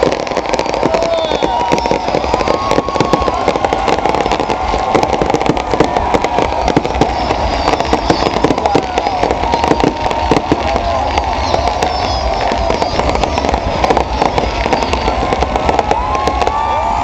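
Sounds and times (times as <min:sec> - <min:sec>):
fireworks crackling and bangs: 0:00.0 - 0:17.0
wavering whistle: 0:00.5 - 0:04.6, 0:06.4 - 0:16.6.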